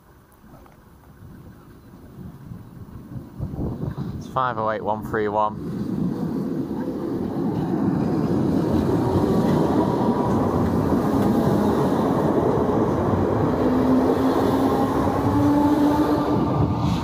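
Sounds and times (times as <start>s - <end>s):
train wheels rumbling on rails: 0.4s - 17.0s.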